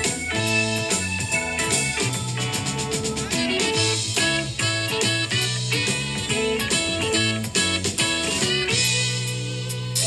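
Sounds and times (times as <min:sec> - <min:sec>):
electric guitar: 0:00.0 - 0:10.0
rock band playing live: 0:00.0 - 0:10.0.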